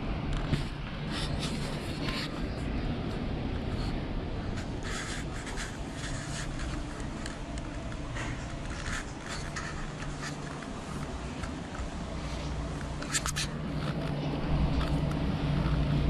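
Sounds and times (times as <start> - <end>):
low room rumble: 0.0 - 16.0.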